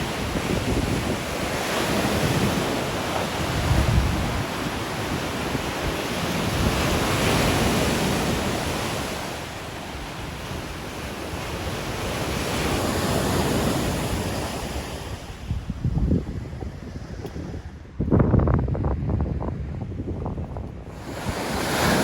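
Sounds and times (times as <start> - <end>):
waves breaking on shore: 0.0 - 18.0, 20.8 - 22.0
wind buffeting microphone: 0.0 - 22.0.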